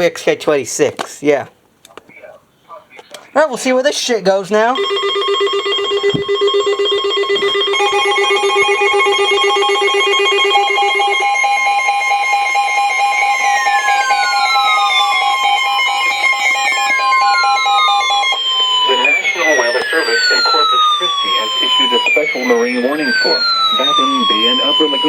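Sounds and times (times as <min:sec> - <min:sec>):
steady high alert tone: 0:03.3 - 0:25.0
pulsed beeping tone: 0:04.8 - 0:25.0
pulsing beep: 0:04.8 - 0:25.0.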